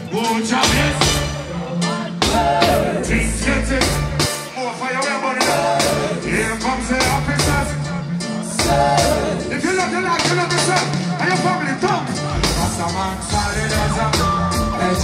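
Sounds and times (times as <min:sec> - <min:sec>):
live reggae band: 0:00.0 - 0:15.0
man singing into microphone: 0:00.0 - 0:15.0.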